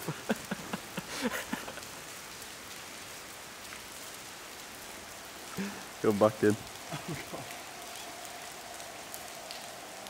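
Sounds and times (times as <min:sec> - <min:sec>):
rain on concrete floor: 0:00.0 - 0:10.0.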